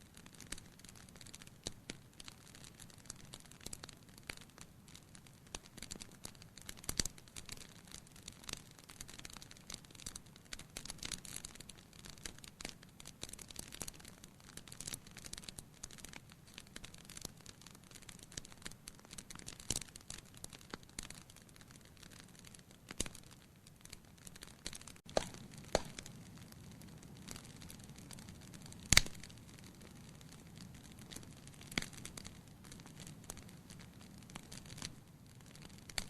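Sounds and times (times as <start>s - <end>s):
low fire rumble: 0.0s - 36.0s
wood fire crackling: 0.0s - 36.0s.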